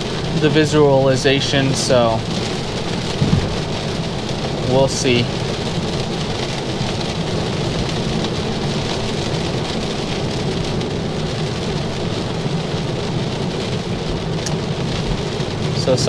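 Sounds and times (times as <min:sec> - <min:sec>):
rain on a moving car: 0:00.0 - 0:16.0
tyre noise on wet road: 0:00.0 - 0:16.0.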